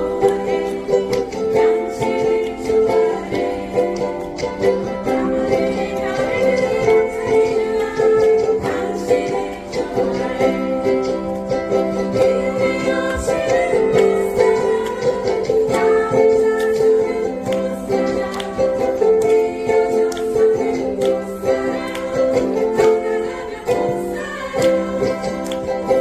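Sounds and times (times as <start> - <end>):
group of voices singing: 0.0 - 26.0
ukulele ensemble strumming: 0.0 - 26.0.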